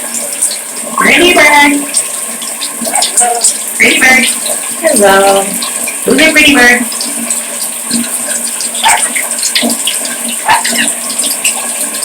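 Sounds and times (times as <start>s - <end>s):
shower water spraying: 0.0s - 12.0s.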